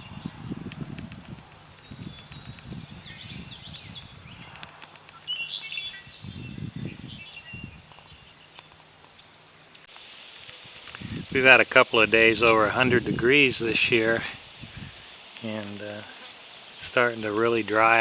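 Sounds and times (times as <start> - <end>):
low rumbling noise: 0.0 - 9.7, 10.6 - 16.1
wild birds chirping: 0.0 - 18.0.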